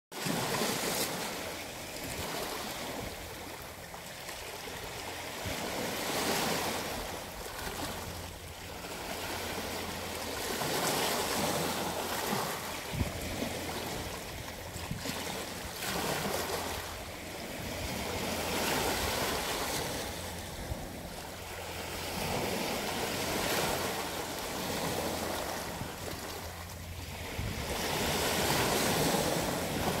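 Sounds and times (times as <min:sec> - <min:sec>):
waves breaking on cobble beach: 0:00.2 - 0:30.0.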